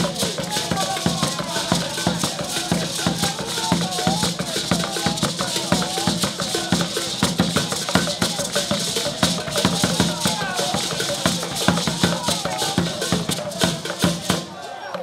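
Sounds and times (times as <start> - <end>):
shaking rattles: 0.0 - 14.6
fast drumming: 0.0 - 15.0
voices singing: 0.0 - 15.0.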